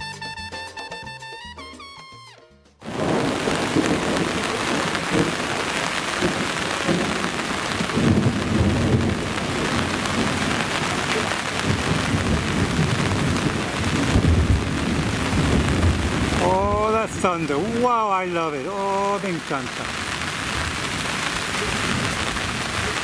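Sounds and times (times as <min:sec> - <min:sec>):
heavy rain pouring: 0:02.8 - 0:23.0
thunder rumbling: 0:02.8 - 0:23.0.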